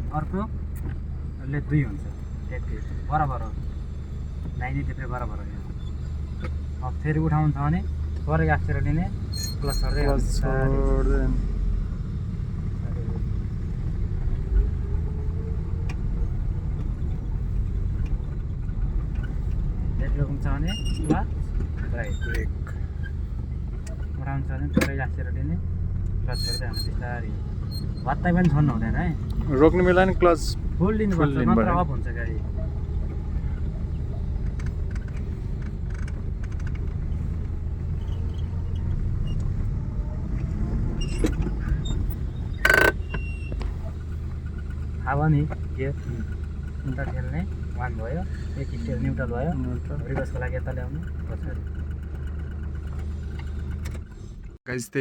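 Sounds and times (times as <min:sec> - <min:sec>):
car engine low rumble: 0:00.0 - 0:55.0.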